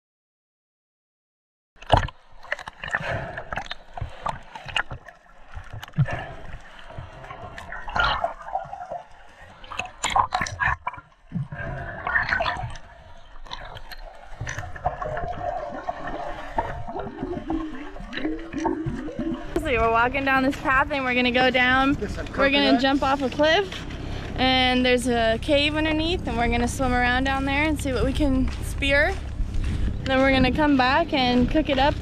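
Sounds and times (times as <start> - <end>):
bubbling: 1.8 - 32.0
water sloshing and gurgling: 1.8 - 32.0
water splashes: 1.8 - 32.0.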